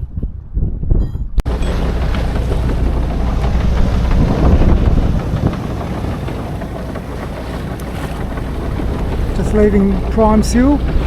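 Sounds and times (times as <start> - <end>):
wind buffeting microphone: 0.0 - 11.0
boat engine running: 1.4 - 11.0.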